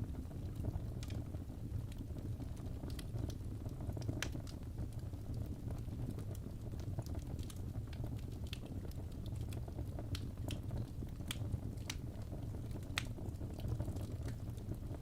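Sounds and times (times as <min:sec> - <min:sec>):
fire crackles and pops: 0:00.0 - 0:15.0
low rumble of flame: 0:00.0 - 0:15.0.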